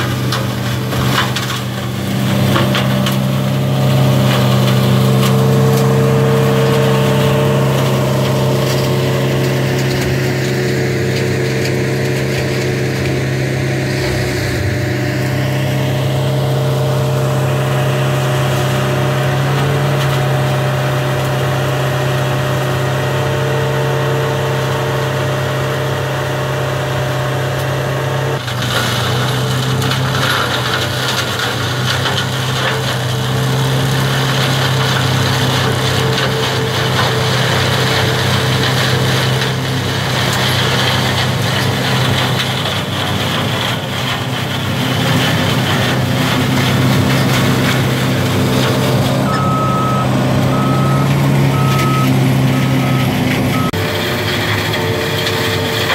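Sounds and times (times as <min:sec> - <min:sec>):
diesel engine running: 0:00.0 - 0:55.9
shredder mulching brush: 0:00.0 - 0:55.9.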